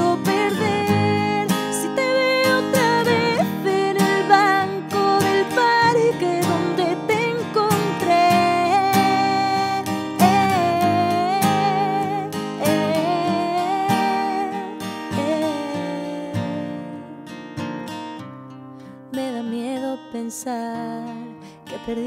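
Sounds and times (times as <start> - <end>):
woman singing with vibrato: 0.0 - 17.3, 19.2 - 22.0
strummed acoustic guitar: 0.0 - 22.0.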